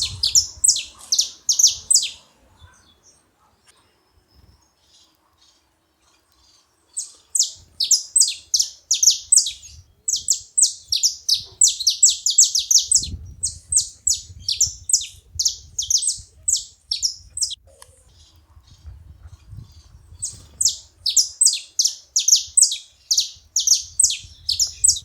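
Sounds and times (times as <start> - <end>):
finches calling: 0.0 - 3.0, 7.0 - 18.9, 19.7 - 25.0.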